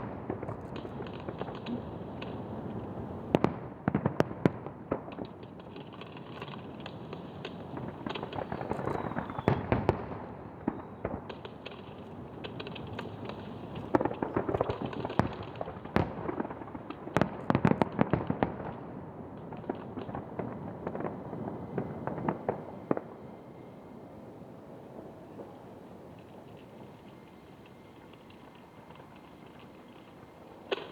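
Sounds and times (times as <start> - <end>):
continuous fireworks rumble: 0.0 - 30.9
fireworks cracks and booms: 0.0 - 30.9.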